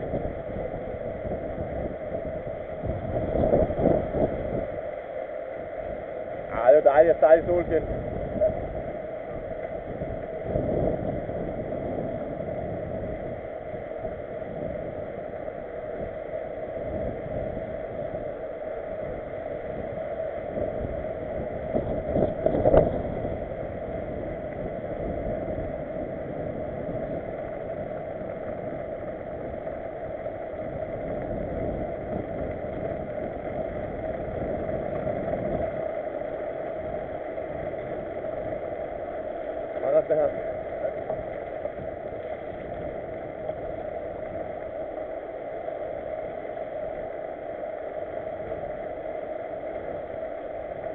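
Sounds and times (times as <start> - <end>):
bike rolling rumble: 0.0 - 50.9
wind rushing on microphone: 0.0 - 50.9.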